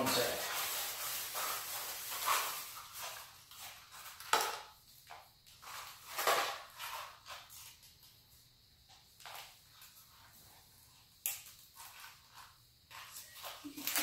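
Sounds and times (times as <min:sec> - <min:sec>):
rustling of small parts by hand: 0:00.0 - 0:14.0.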